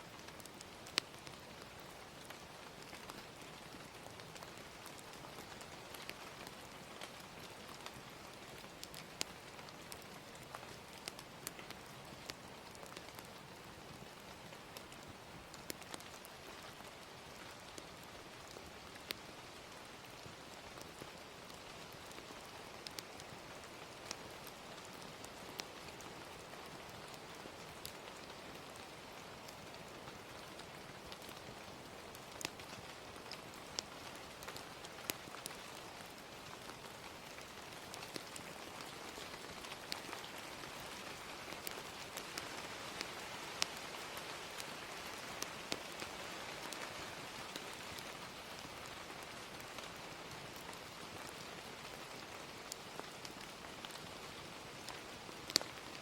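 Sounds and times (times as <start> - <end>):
gentle rain: 0.0 - 56.0
fire crackling and popping: 0.1 - 56.0.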